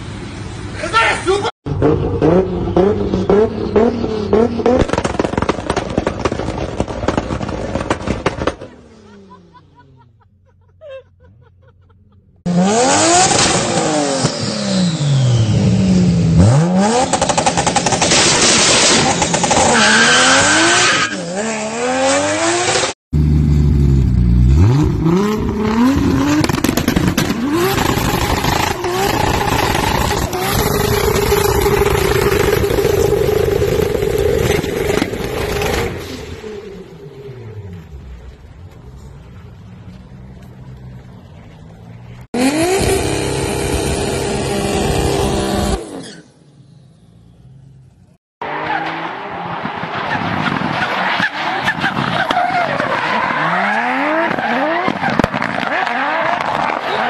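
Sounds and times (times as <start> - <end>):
car engines revving: 1.4 - 10.2, 12.0 - 57.0.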